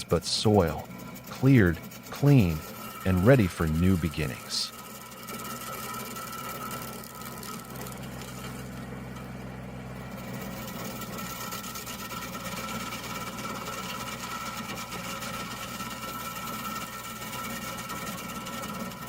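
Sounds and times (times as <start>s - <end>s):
stump grinder engine whining: 0.0s - 19.0s.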